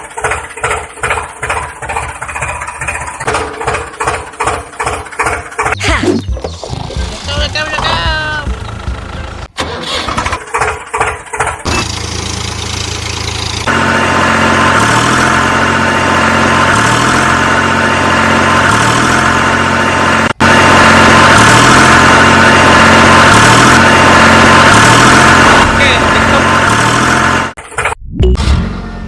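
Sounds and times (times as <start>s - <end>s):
engine starting and running: 0.0s - 29.0s.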